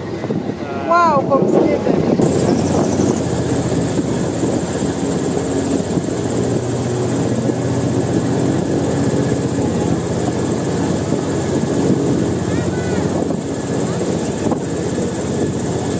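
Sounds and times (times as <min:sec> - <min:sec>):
airboat engine and propeller: 0:00.0 - 0:15.9.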